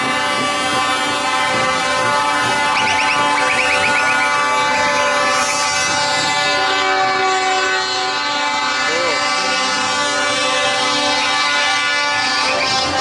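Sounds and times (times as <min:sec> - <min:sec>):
truck air horns blaring: 0:00.0 - 0:13.0.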